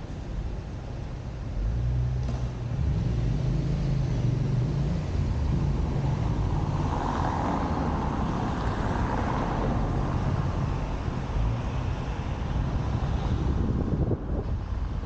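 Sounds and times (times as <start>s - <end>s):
wind buffeting and tyre rumble: 0.0s - 15.0s.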